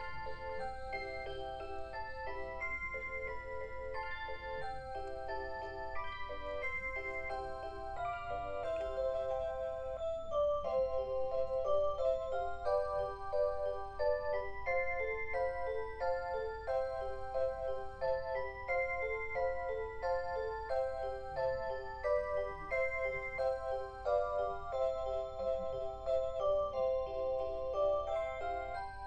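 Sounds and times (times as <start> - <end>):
electronic alarm clock melody: 0.0 - 29.0.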